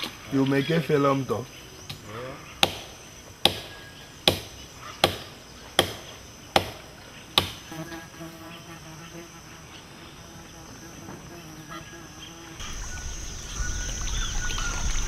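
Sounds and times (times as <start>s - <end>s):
insect buzz: 0.0s - 15.0s.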